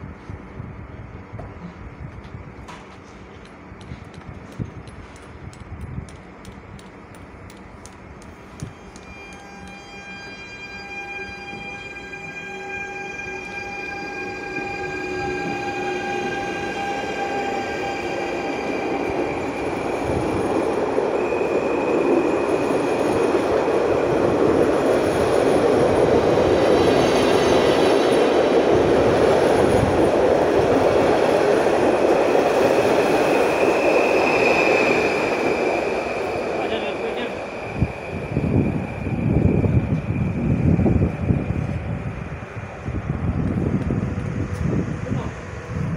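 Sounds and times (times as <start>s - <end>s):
electric train whine: 0.0s - 45.9s
train wheels rolling rush: 0.0s - 45.9s.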